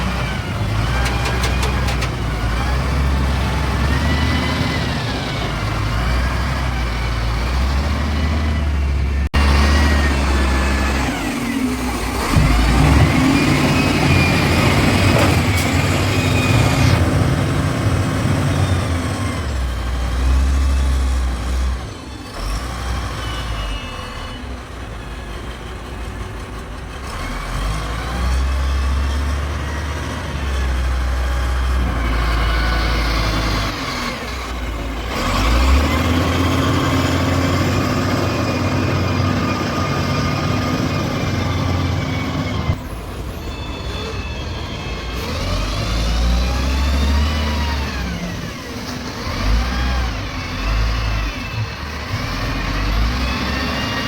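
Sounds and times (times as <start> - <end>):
diesel machinery engines revving: 0.0 - 54.0.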